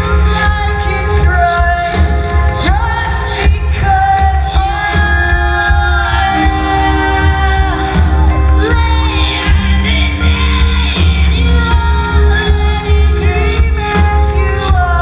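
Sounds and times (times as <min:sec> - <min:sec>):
live rock band playing: 0:00.0 - 0:15.0
men singing: 0:00.0 - 0:15.0.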